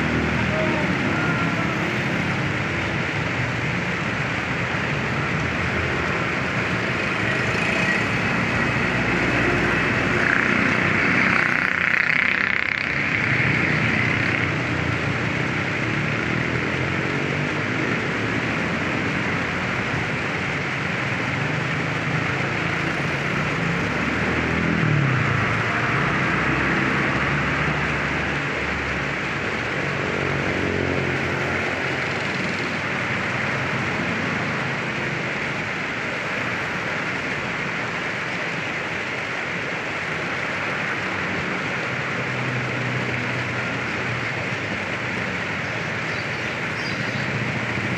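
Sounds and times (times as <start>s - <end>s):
water rushing over rocks: 0.0s - 47.9s.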